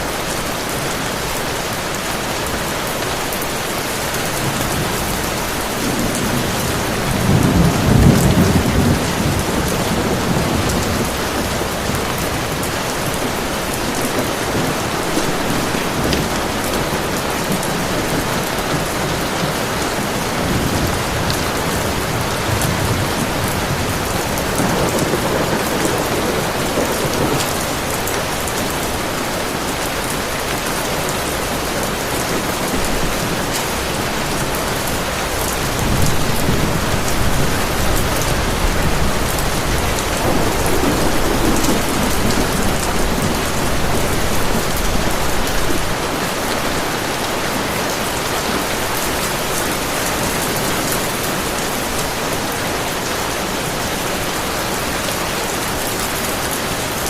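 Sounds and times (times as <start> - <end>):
heavy rain falling: 0.0 - 57.0
low thunder rumbles: 4.0 - 57.0.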